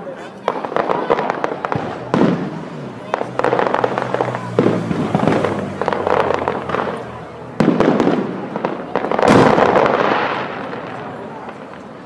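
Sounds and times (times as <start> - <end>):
crackling firework stars: 0.0 - 12.0
firework shells bursting: 0.5 - 12.0.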